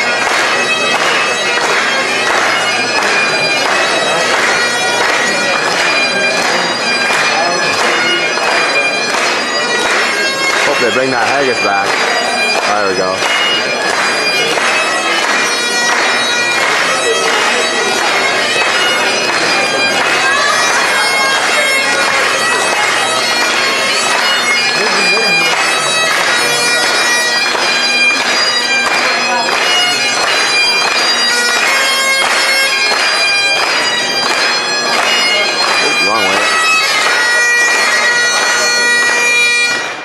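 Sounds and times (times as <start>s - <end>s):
bagpipes playing: 0.0s - 40.0s.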